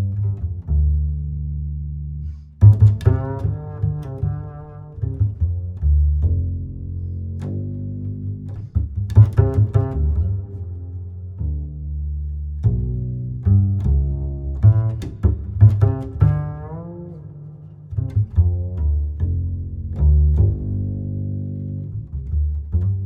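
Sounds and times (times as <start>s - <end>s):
low bowed and plucked strings: 0.0s - 23.0s.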